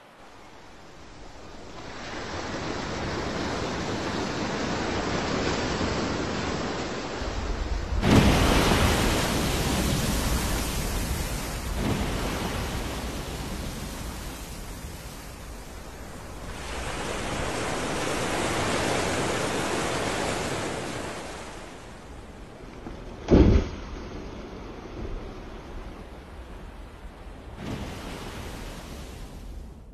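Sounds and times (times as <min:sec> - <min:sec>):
open sea water rushing: 0:00.0 - 0:29.9
wind on microphone: 0:01.3 - 0:29.9.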